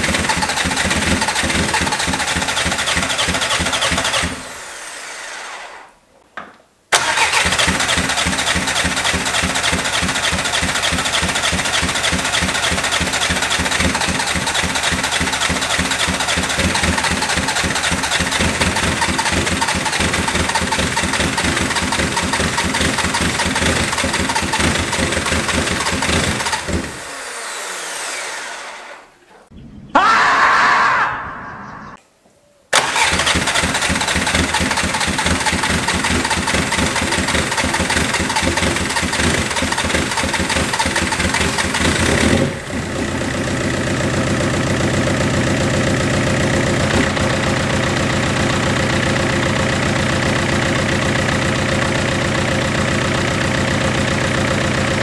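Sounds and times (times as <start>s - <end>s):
diesel engine clattering: 0.0s - 4.4s, 7.0s - 27.0s, 32.8s - 55.0s
starter whine: 0.0s - 6.0s, 6.9s - 29.1s, 32.8s - 55.0s.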